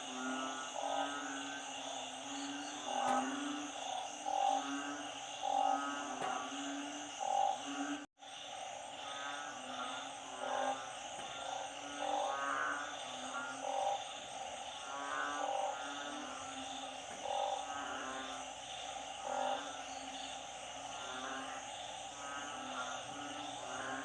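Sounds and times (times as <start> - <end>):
frogs croaking: 0.0 - 24.0.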